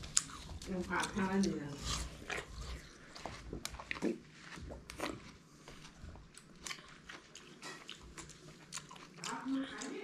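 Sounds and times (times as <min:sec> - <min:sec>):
watermelon bitten and chewed: 0:00.0 - 0:10.0.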